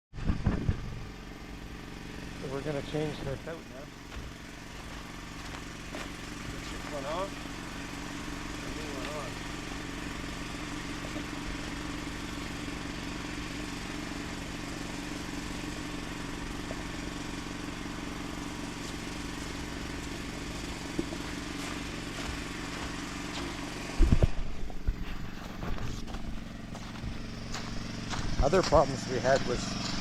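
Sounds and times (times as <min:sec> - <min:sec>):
small engine running: 0:00.2 - 0:30.0.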